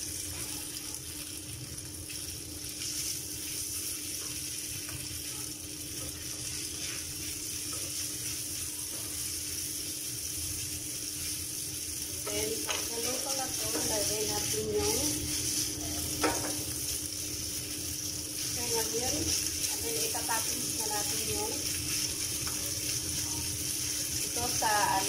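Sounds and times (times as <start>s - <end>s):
meat sizzling in a frying pan: 0.0s - 25.0s.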